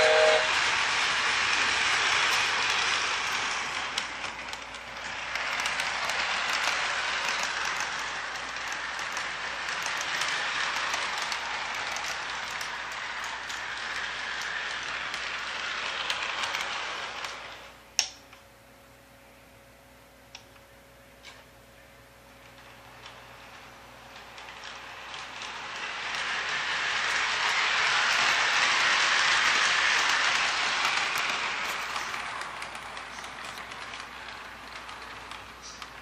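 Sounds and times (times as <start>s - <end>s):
wheels clicking over rail joints: 0.0s - 17.7s, 22.4s - 36.0s
model train wheels whirring: 0.0s - 18.1s, 22.3s - 36.0s.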